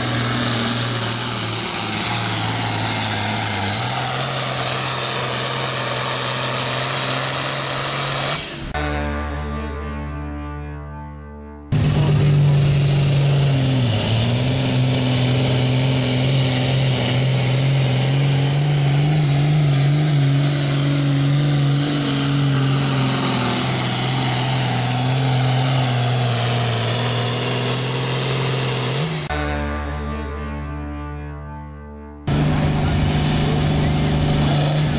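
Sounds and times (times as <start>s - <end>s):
tractor engine running flat out: 0.0s - 9.1s, 11.7s - 29.8s, 32.3s - 34.9s.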